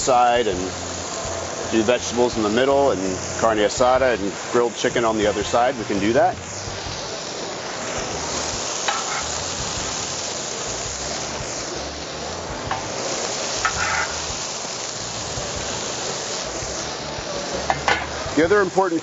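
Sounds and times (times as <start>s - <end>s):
food sizzling on griddle: 0.0s - 19.0s.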